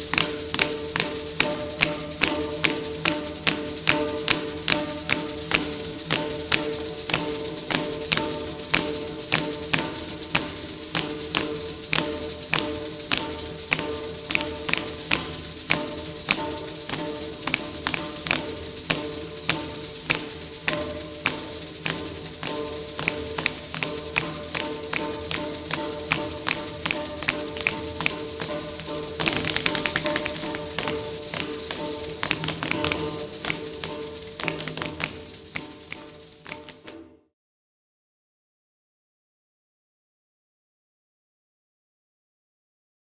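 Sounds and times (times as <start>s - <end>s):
ankle bells jingling: 0.0s - 37.3s
sharp rhythmic strikes: 0.0s - 37.3s.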